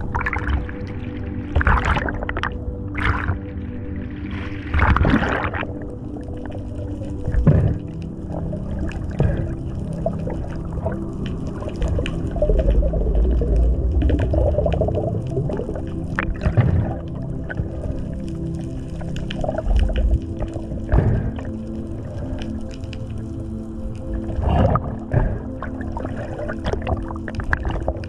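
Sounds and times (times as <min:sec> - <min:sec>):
low underwater drone: 0:00.0 - 0:28.0
underwater rushing and bubbling: 0:00.0 - 0:28.0
sharp underwater clicks: 0:01.6 - 0:03.5, 0:04.7 - 0:23.3, 0:23.9 - 0:28.0.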